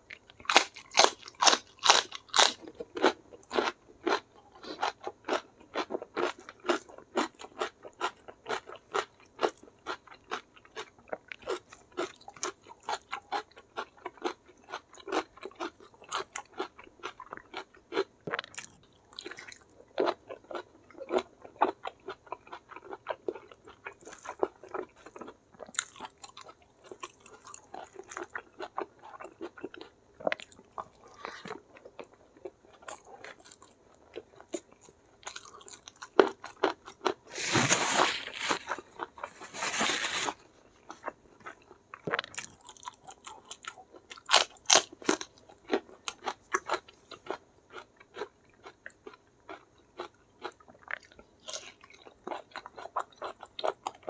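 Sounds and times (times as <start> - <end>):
crunchy chewing of raw bean: 0.0 - 54.0.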